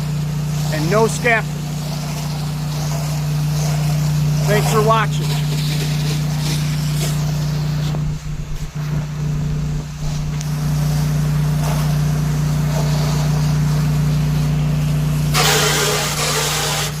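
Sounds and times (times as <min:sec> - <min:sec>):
pressure washer engine humming: 0:00.0 - 0:17.0
rushing hiss of water spray: 0:00.0 - 0:17.0.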